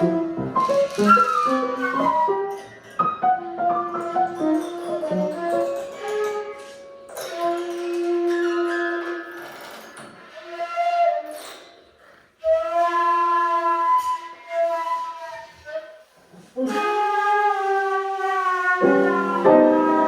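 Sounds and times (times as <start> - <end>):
flute-like wind instrument notes: 0.0 - 9.1, 10.3 - 11.5, 12.4 - 16.0, 16.6 - 20.0.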